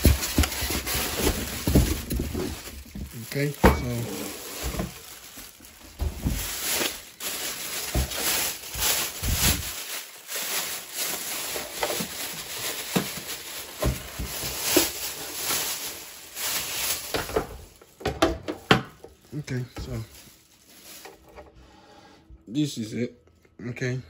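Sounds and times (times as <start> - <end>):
plastic bags crinkling: 0.0 - 21.5.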